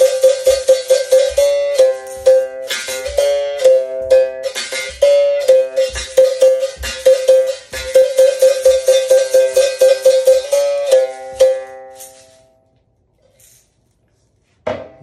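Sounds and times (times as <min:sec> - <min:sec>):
berimbau struck with stick: 0:00.0 - 0:12.3.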